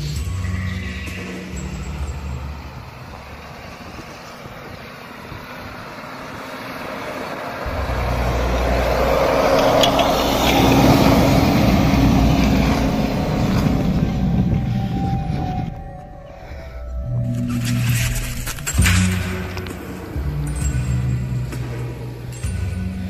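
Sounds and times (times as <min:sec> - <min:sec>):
car engine running: 0:00.0 - 0:23.0
tyres on snow: 0:00.0 - 0:23.0.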